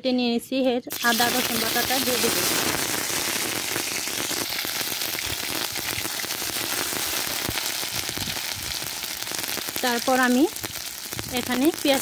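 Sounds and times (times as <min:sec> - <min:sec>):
paste sizzling and crackling in oil: 0:00.9 - 0:12.0.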